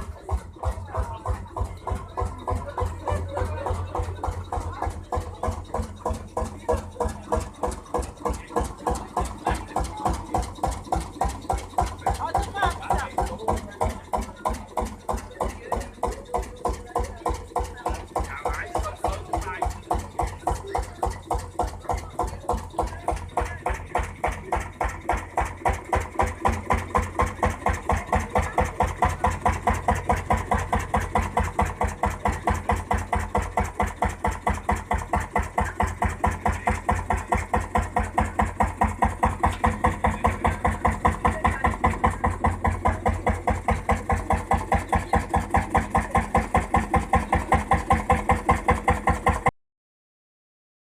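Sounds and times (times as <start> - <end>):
tractor engine running: 0.0 - 49.6.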